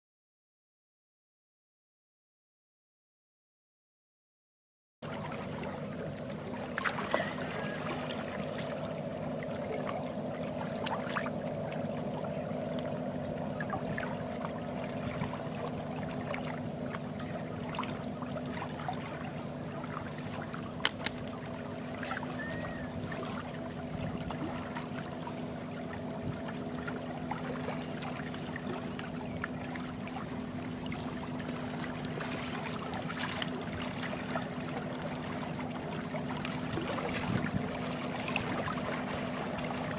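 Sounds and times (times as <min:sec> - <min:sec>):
low engine drone: 0:05.0 - 0:39.9
water lapping at shoreline: 0:05.0 - 0:39.9.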